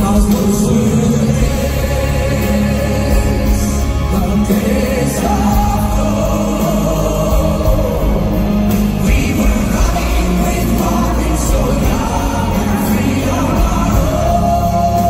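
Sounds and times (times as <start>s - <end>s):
backing singers: 0.0s - 15.0s
piano: 0.0s - 15.0s.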